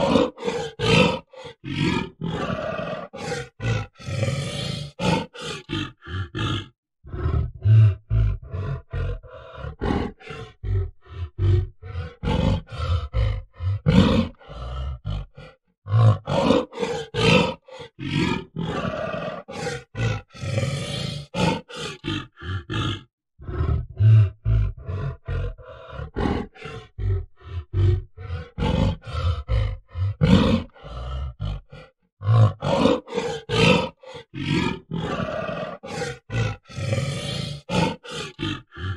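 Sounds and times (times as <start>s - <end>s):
gorilla grunting: 0.0s - 38.9s.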